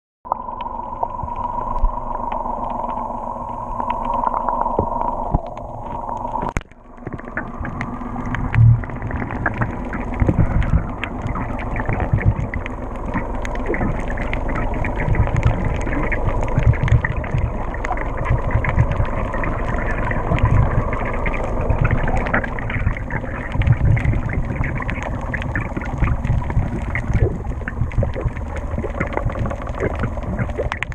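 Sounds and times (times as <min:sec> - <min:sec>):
muffled underwater noise: 0:00.3 - 0:30.9
low thumps and small clicks: 0:00.6 - 0:30.9.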